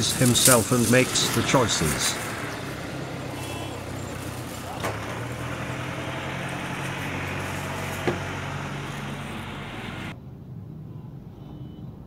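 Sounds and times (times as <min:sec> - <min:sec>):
low engine hum: 0:00.0 - 0:10.4.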